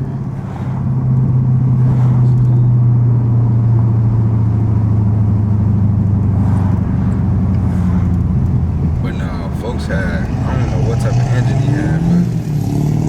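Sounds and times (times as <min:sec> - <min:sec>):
car engine cruising: 0:00.0 - 0:13.0.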